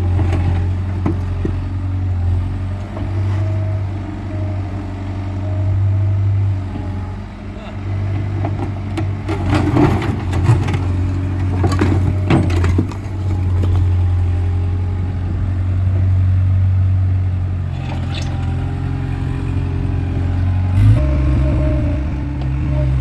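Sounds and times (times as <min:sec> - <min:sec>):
skid steer engine running: 0:00.0 - 0:23.0.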